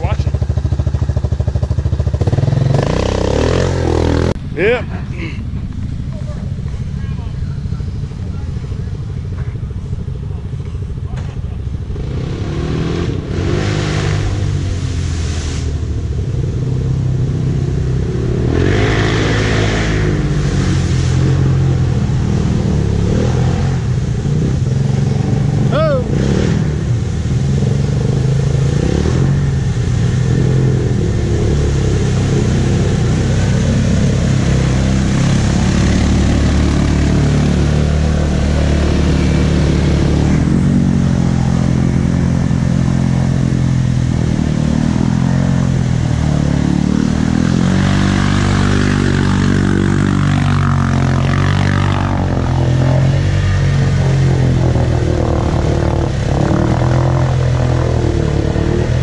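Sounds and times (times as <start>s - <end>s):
atv engines revving: 0.0s - 59.0s
quads pushing through water: 0.0s - 59.0s.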